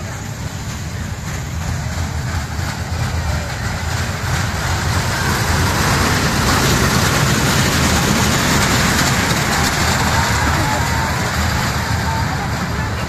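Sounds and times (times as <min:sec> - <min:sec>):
ride wheels rumbling on rails: 0:00.0 - 0:13.0.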